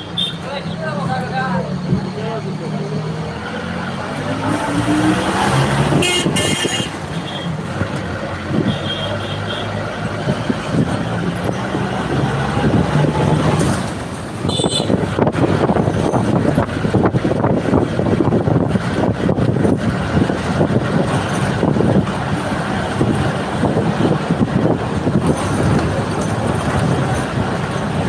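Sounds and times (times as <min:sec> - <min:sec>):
bus engine running: 0:00.0 - 0:28.0
traffic noise: 0:00.0 - 0:28.0.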